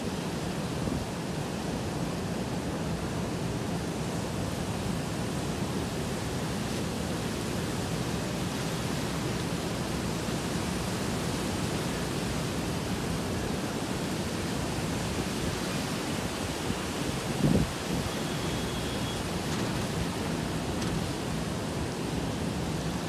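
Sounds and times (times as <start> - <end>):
heavy rain in gusting wind: 0.0 - 23.0.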